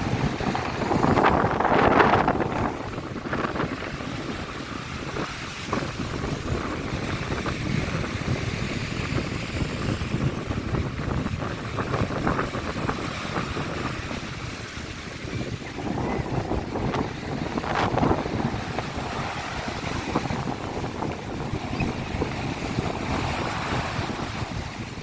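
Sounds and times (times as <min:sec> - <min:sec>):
sea waves washing onto shore: 0:00.0 - 0:25.0
wind buffeting microphone: 0:00.0 - 0:25.0.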